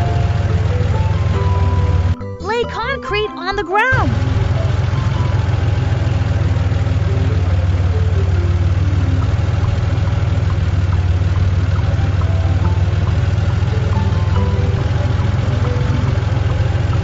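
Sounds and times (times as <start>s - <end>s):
diesel truck engine rumble: 0.0s - 2.2s, 4.0s - 17.0s.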